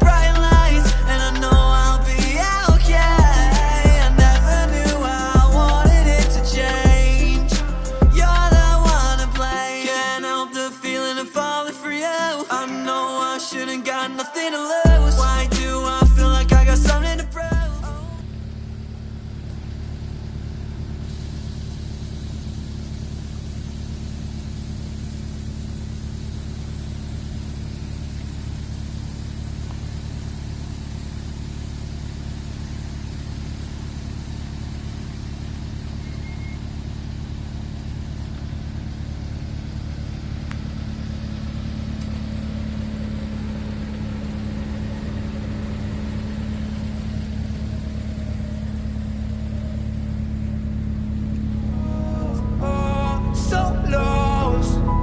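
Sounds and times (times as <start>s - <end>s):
car engine idling: 0.0s - 10.2s, 14.7s - 55.0s.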